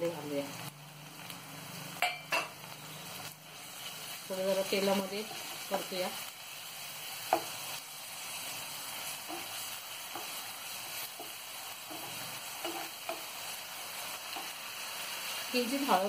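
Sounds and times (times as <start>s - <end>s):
onion sizzling in hot oil: 0.0s - 16.0s.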